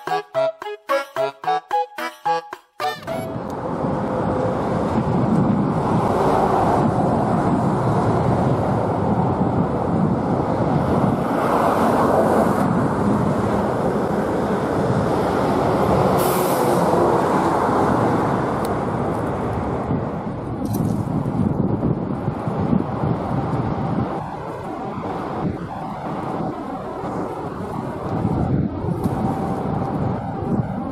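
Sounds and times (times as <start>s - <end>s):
road traffic rumble: 3.2s - 30.9s.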